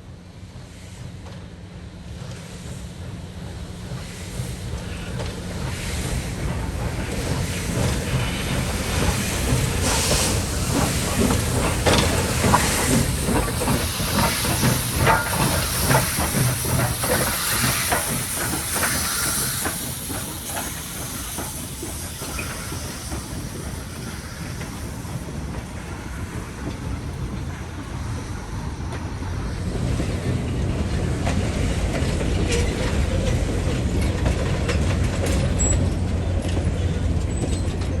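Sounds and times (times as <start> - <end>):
steam hissing: 2.4 - 35.9
locomotive low rumble: 3.0 - 38.0.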